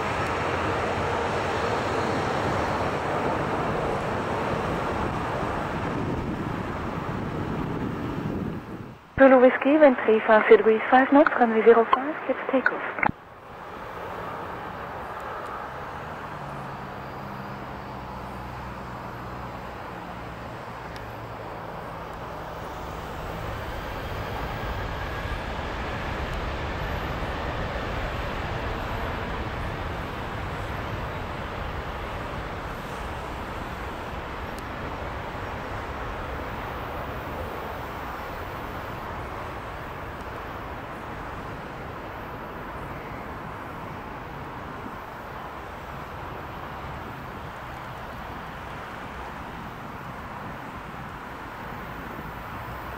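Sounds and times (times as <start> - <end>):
jet engines roaring with whine: 0.0 - 52.9.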